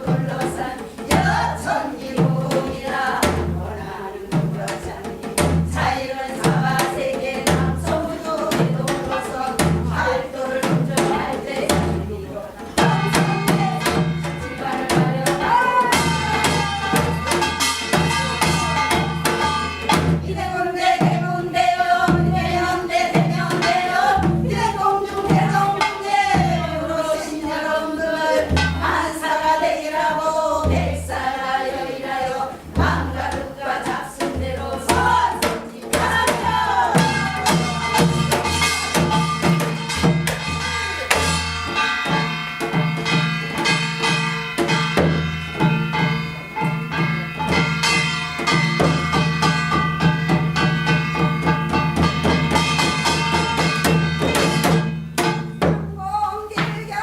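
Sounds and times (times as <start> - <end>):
folk song melody with ornaments: 0.0 - 57.0
steady drum strokes: 0.0 - 57.0.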